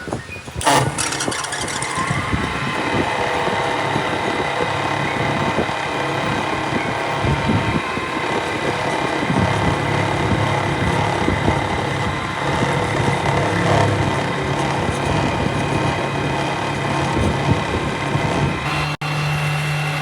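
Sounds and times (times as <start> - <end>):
machine motor whining: 0.1 - 20.0.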